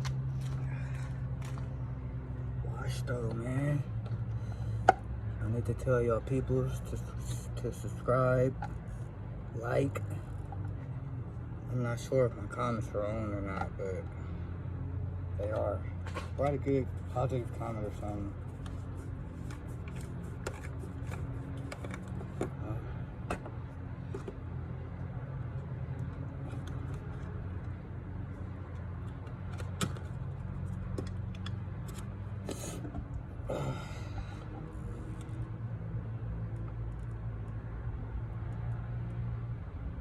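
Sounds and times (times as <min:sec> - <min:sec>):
car engine idling: 0:00.0 - 0:37.6.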